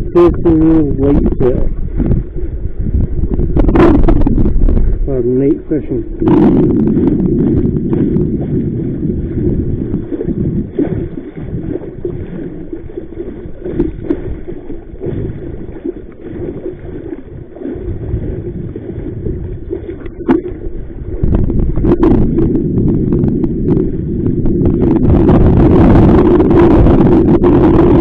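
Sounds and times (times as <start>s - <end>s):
water lapping at boat: 0.0s - 28.0s
wind buffeting microphone: 0.0s - 28.0s.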